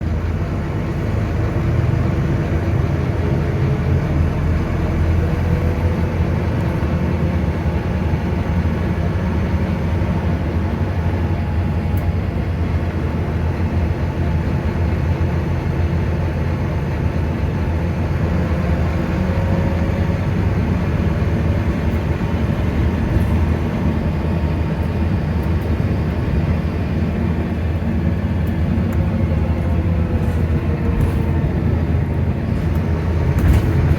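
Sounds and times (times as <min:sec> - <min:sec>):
diesel bus engine drone: 0:00.0 - 0:33.9.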